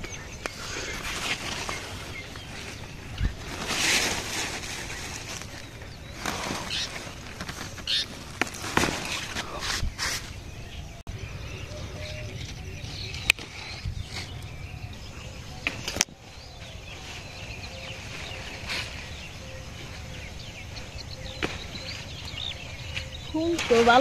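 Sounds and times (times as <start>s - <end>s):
leaves rustling: 0.0s - 10.8s, 12.4s - 24.0s
faint birds chirping: 0.0s - 24.0s.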